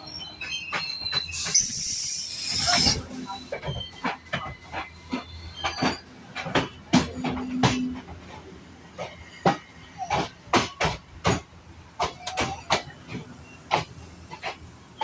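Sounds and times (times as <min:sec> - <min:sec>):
train wheels clacking over rails: 0:00.4 - 0:15.0.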